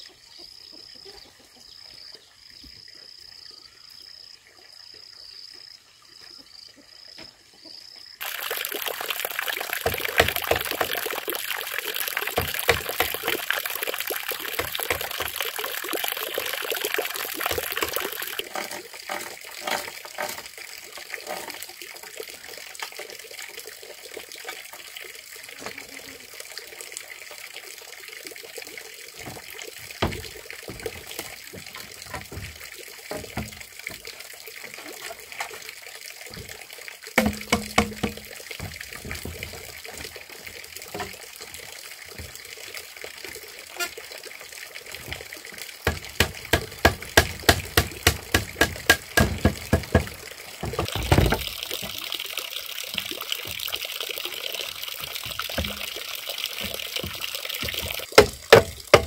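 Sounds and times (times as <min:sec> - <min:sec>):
running water: 0:08.2 - 0:59.0.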